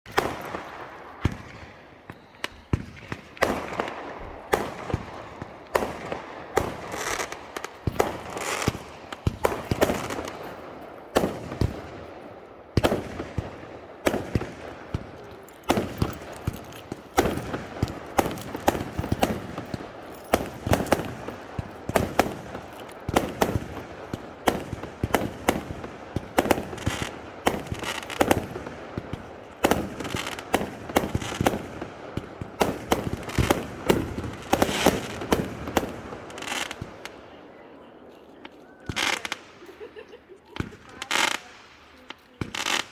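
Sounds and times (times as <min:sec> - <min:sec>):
fireworks bangs and pops: 0:00.1 - 0:42.9.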